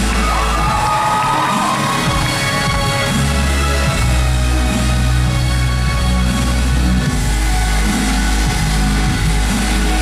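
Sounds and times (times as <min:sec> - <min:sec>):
loud music with heavy bass: 0:00.0 - 0:10.0.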